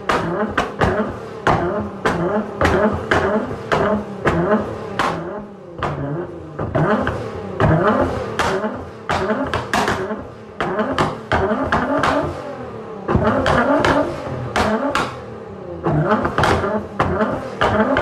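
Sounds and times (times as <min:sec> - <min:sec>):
exhaust pops and bangs: 0:00.0 - 0:12.4, 0:13.1 - 0:18.0
car engine revving: 0:00.0 - 0:18.0.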